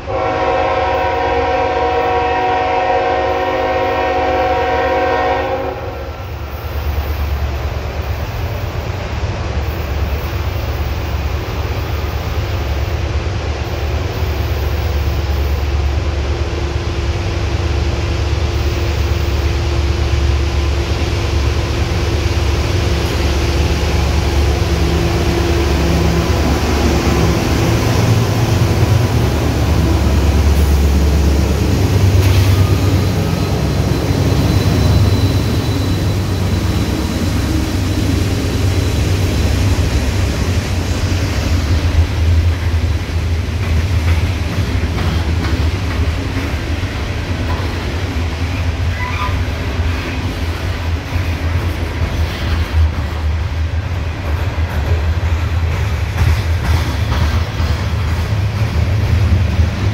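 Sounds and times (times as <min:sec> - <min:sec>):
diesel locomotives rumbling: 0:00.0 - 0:59.9
freight cars rolling on rails: 0:06.2 - 0:59.9.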